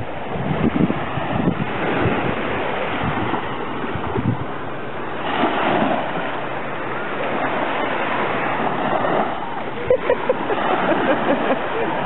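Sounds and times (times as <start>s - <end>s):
small waves washing up shore: 0.0s - 12.0s
wind buffeting microphone: 0.0s - 12.0s.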